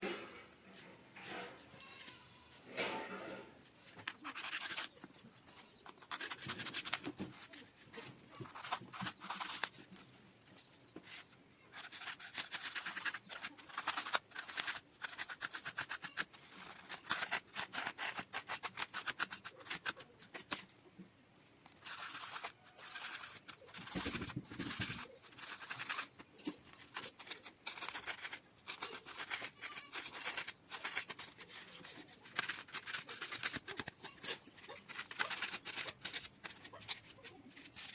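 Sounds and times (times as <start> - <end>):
scissors cutting paper: 4.0 - 9.8, 11.7 - 20.7, 21.8 - 37.9.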